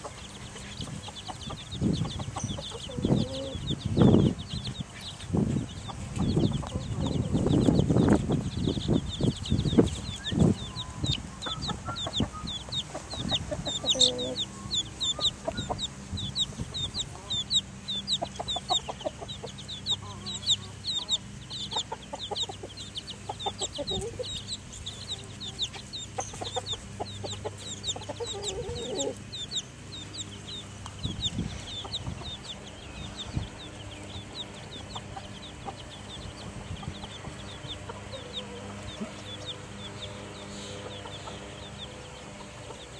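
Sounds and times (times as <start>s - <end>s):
chicks peeping: 0.0s - 42.9s
hen clucking: 0.0s - 42.9s.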